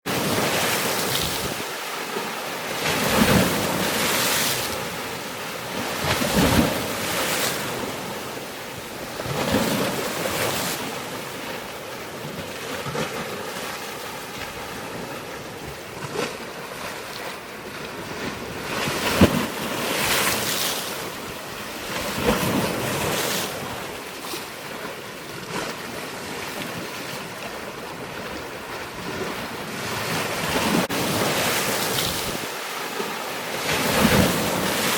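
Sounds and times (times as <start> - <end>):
waves surging: 0.1 - 34.9.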